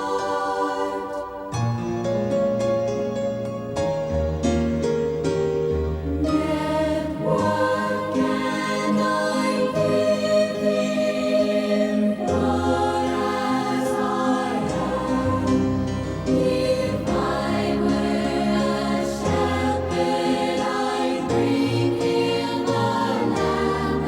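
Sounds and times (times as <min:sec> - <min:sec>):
choir singing held notes: 0:00.0 - 0:01.9, 0:06.0 - 0:24.0.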